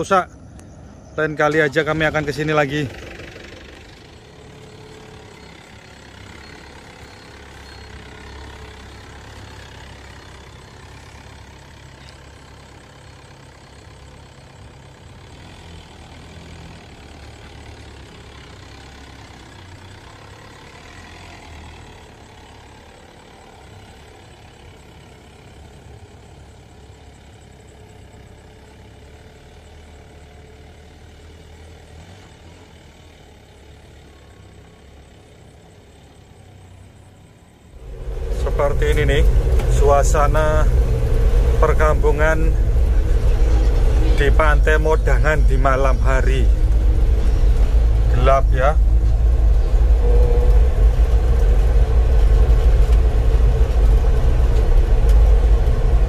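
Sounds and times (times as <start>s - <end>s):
diesel engine running at low speed: 0.0s - 56.0s.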